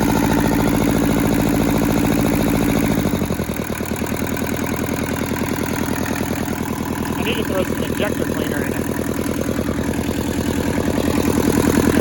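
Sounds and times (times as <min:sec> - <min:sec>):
small diesel engine running: 0:00.0 - 0:12.0.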